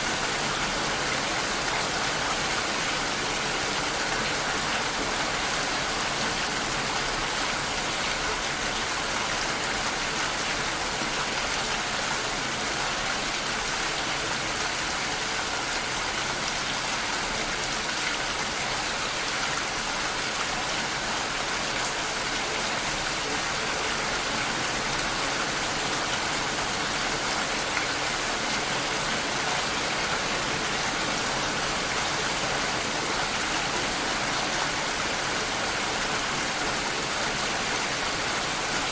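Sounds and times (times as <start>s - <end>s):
steady rain through glass: 0.0s - 38.9s.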